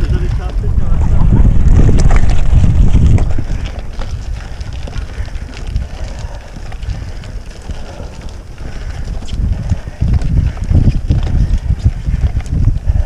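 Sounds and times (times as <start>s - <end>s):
bike tyres rumbling on stony track: 0.0s - 13.0s
stones and bike rattling: 0.0s - 13.0s
wind buffeting microphone: 0.0s - 13.0s.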